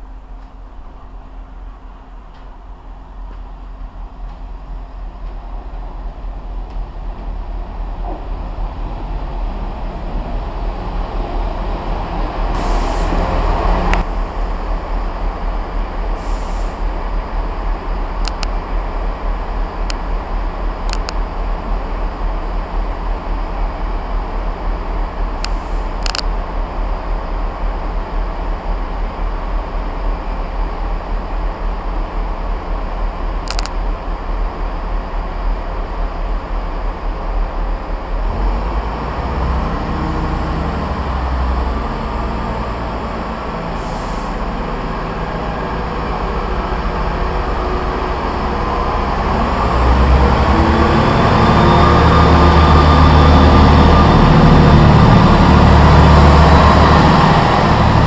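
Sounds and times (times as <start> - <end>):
diesel train arriving: 0.0 - 58.0
steady low rumble: 0.0 - 58.0.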